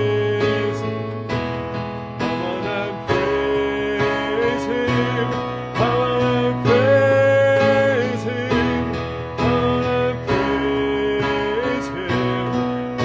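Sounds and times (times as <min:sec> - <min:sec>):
person singing worship song: 0:00.0 - 0:01.3, 0:02.2 - 0:13.0.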